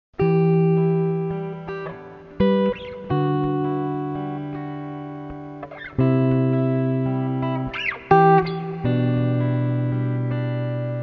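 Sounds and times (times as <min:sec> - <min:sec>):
acoustic guitar chords ringing: 0:00.3 - 0:11.0.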